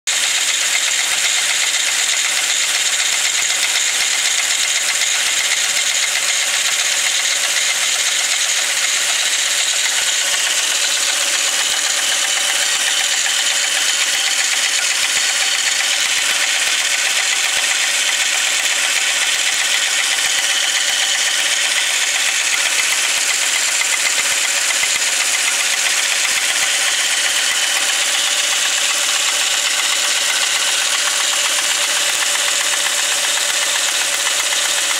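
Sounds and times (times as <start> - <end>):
engine rattling knock: 0.1 - 34.9
engine running: 0.1 - 34.9.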